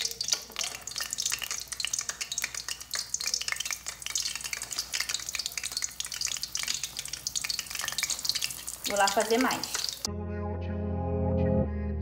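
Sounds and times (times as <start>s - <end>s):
bread frying in hot oil: 0.0s - 10.1s.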